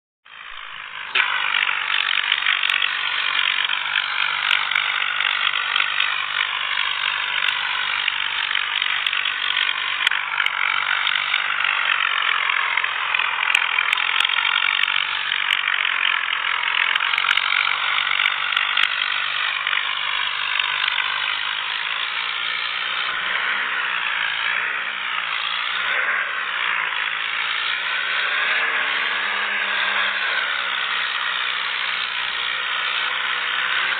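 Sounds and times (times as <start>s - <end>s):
thresher whirring and rattling: 0.2s - 33.9s
tractor engine running: 0.2s - 33.9s.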